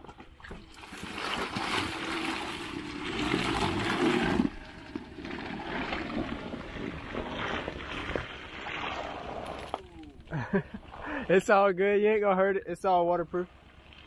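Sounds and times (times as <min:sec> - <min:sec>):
tires splashing through mud: 0:00.0 - 0:11.6, 0:13.2 - 0:14.0.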